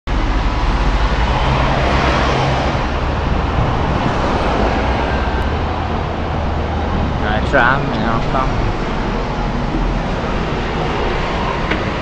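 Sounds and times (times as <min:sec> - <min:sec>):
road traffic: 0:00.1 - 0:12.0
tram rumbling with low hum: 0:00.1 - 0:12.0.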